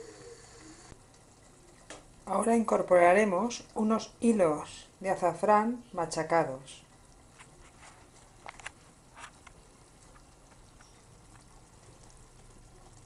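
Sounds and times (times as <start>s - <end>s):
simmering pot hiss: 0.0s - 13.0s.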